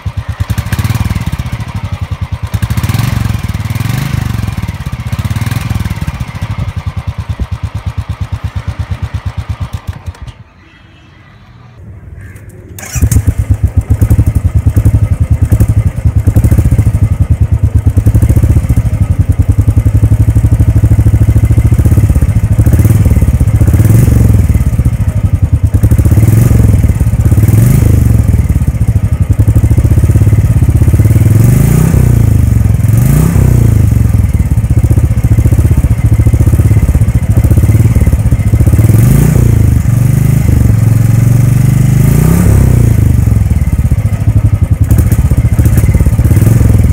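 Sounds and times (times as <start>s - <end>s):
motorcycle engine idling: 0.0s - 11.1s, 12.6s - 46.9s.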